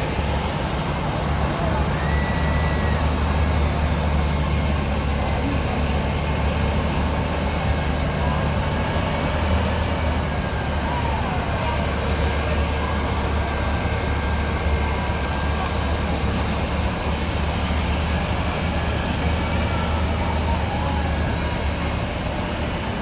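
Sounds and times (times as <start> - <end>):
truck engine running under load: 0.0 - 23.0.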